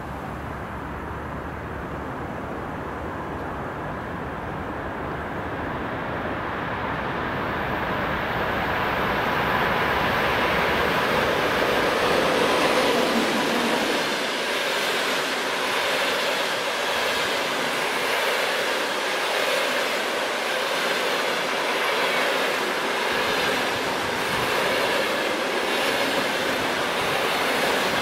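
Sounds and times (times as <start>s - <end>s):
train wheels on rails: 2.3s - 28.0s.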